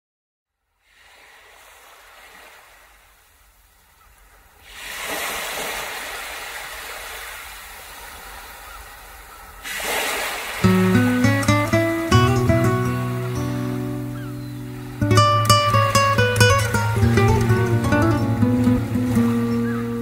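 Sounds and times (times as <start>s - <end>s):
surf washing over pebbles: 0.8s - 20.0s.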